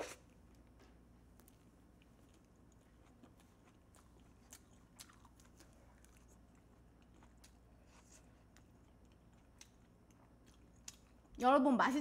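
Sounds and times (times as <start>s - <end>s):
low steady hum: 0.0s - 12.0s
chewing mouth clicks and smacks: 1.3s - 11.4s.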